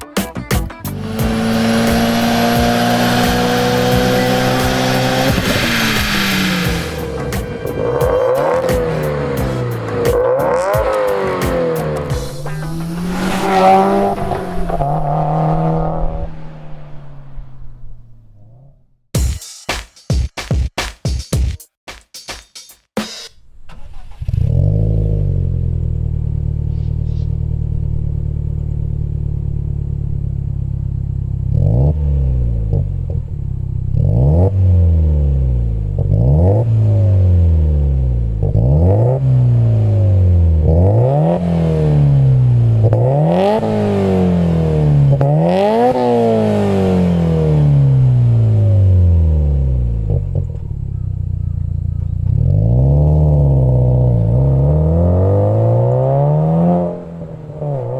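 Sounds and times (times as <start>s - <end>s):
car engine idling and revving: 0.8s - 19.1s, 23.4s - 57.9s.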